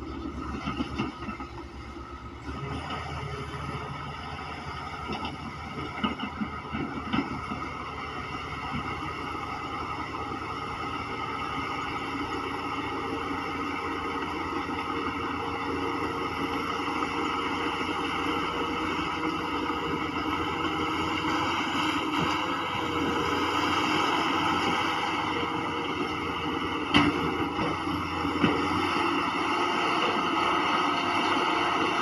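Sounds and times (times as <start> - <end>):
heavy diesel machinery running: 0.0 - 32.0.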